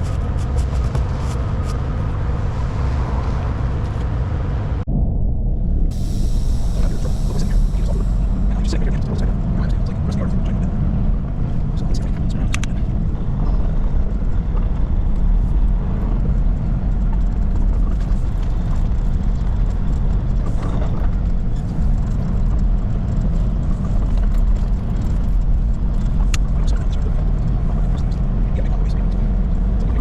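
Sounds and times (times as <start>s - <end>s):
truck engine rumbling: 0.0s - 30.0s.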